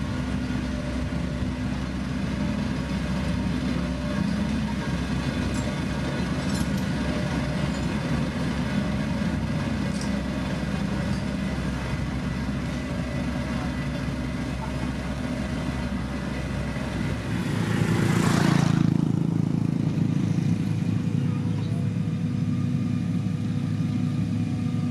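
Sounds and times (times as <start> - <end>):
diesel machinery droning: 0.0 - 24.9.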